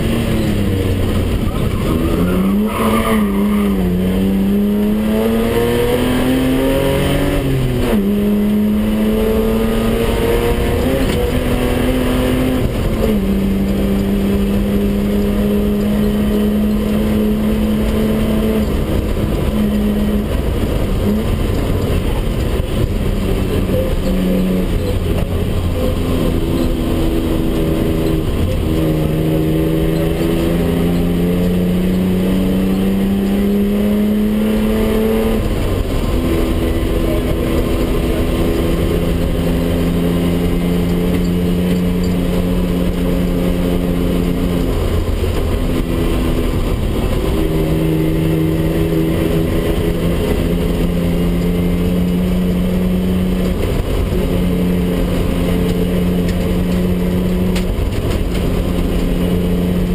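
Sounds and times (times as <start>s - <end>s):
rally car engine revving: 0.0s - 59.9s
road and tyre noise: 0.0s - 59.9s.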